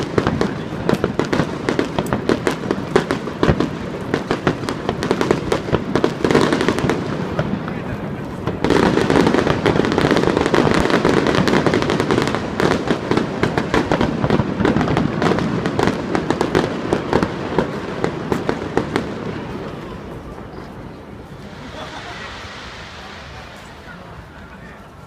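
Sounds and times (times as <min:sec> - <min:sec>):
fireworks bursts and crackling bangs: 0:00.0 - 0:25.0
fireworks rumble: 0:00.0 - 0:25.0.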